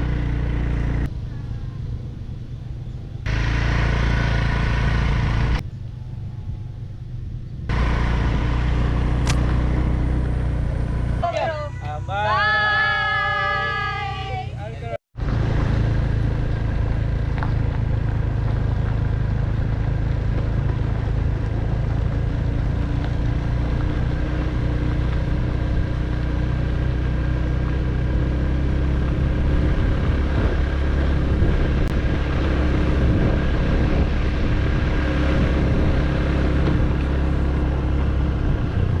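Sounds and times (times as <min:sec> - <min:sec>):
road noise: 0:00.0 - 0:39.0
vehicle engine drone: 0:00.0 - 0:39.0.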